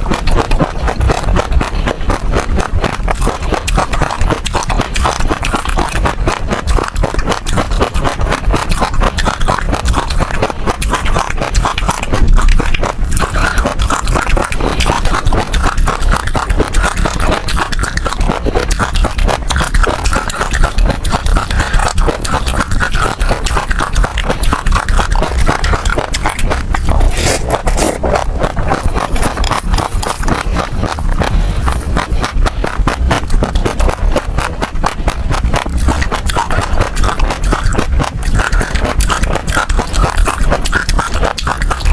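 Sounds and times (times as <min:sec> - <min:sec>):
seeds crunching between teeth: 0:00.0 - 0:41.9.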